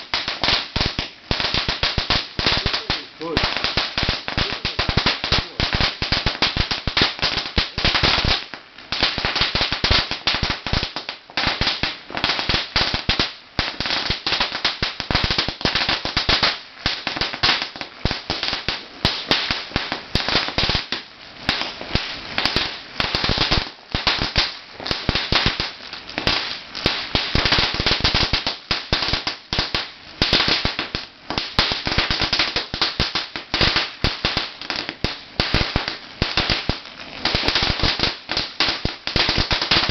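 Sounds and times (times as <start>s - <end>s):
firecrackers going off: 0.0s - 39.9s.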